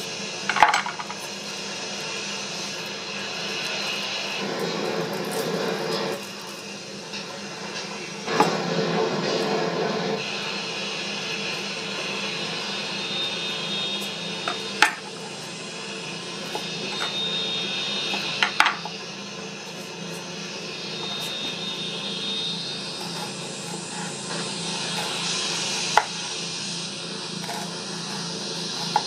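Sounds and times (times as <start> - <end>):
steady hum and hiss: 0.0 - 29.0.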